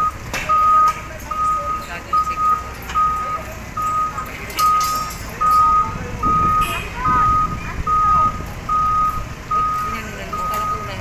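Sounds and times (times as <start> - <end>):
diesel engine rumble: 0.0 - 11.0
reversing alarm beeping: 0.0 - 11.0.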